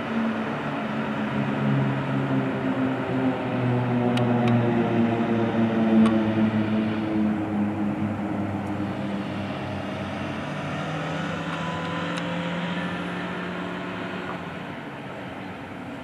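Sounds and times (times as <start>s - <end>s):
propeller aircraft droning: 0.0s - 16.0s.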